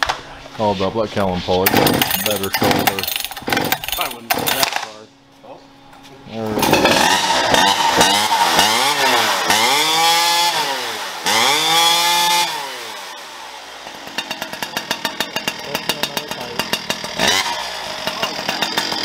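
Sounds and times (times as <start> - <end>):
chainsaw engine revving and idling: 1.6 - 4.9, 6.5 - 19.0.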